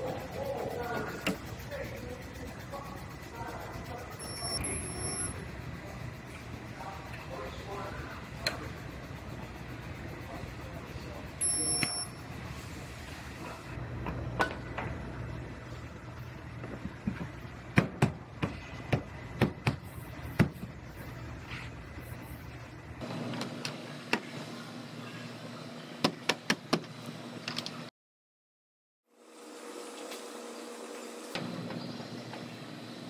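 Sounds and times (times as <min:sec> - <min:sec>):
steady shop hum: 0:00.0 - 0:27.9, 0:29.1 - 0:33.0.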